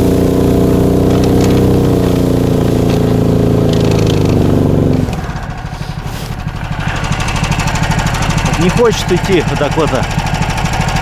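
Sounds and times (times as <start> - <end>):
engine revving hard: 0.0 - 11.0
machine pushing through snow: 0.0 - 11.0.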